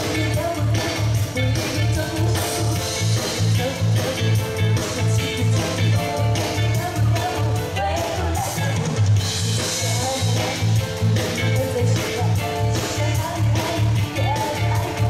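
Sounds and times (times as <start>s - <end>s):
woman singing: 0.0s - 8.9s, 9.5s - 15.0s
live band playing pop song: 0.0s - 15.0s.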